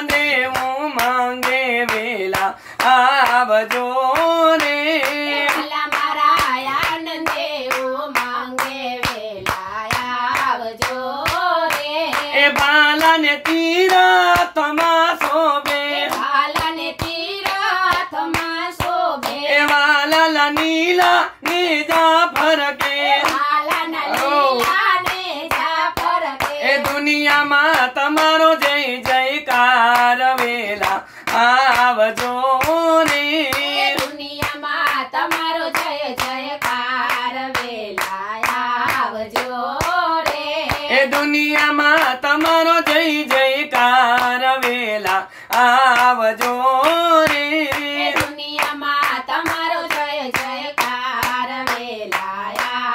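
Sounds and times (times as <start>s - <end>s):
hand claps: 0.0s - 52.9s
man and women singing: 0.0s - 52.9s.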